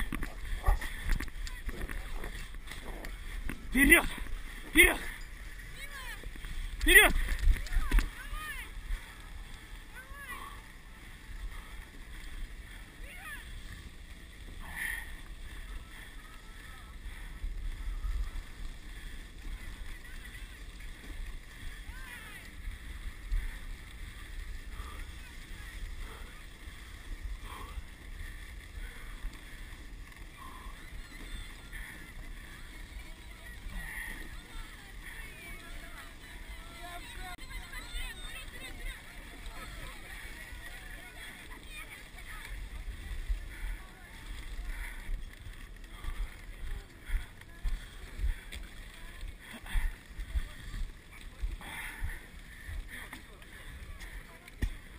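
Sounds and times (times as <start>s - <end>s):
faint voices: 0.0s - 54.9s
sled runners hissing on snow: 0.0s - 54.9s.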